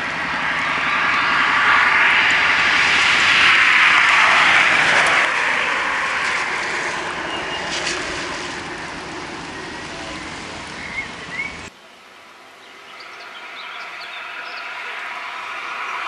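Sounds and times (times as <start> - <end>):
tyres hissing on damp road: 0.0 - 11.8, 12.6 - 16.0.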